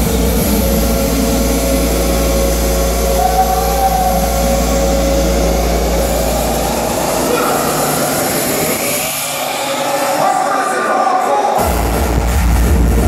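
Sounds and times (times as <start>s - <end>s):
deep bass drone: 0.0s - 10.2s, 11.6s - 13.0s
loud electronic music: 0.0s - 13.0s.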